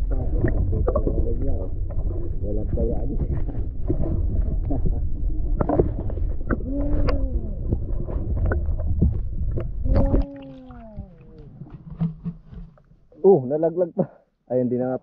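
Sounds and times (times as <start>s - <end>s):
heavy low underwater rumble: 0.0s - 13.6s
underwater clicks and knocks: 0.2s - 2.4s, 3.1s - 13.1s.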